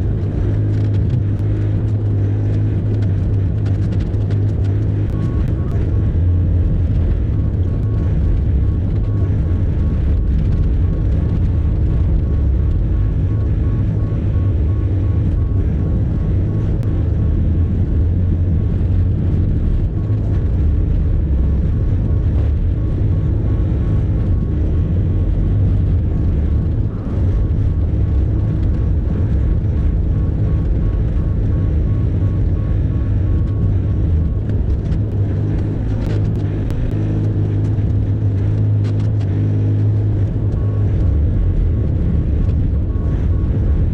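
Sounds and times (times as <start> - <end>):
excavator diesel engine droning: 0.0 - 43.9.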